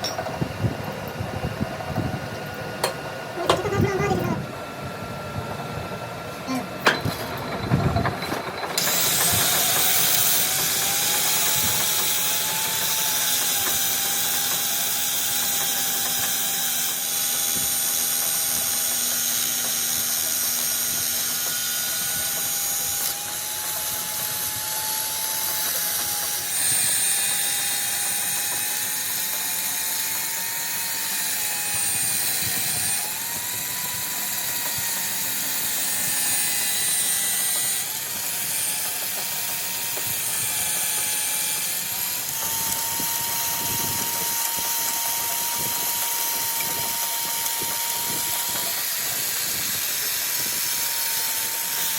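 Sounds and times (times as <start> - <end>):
power tool motor under load: 6.5 - 51.9.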